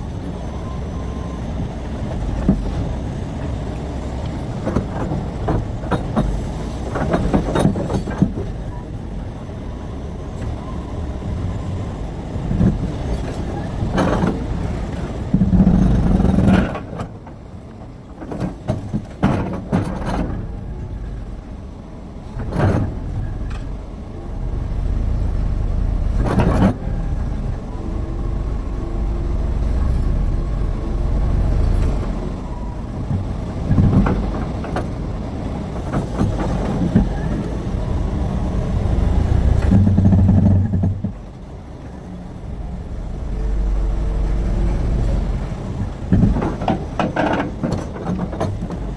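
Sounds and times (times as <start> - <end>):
excavator engine working: 0.0 - 48.9.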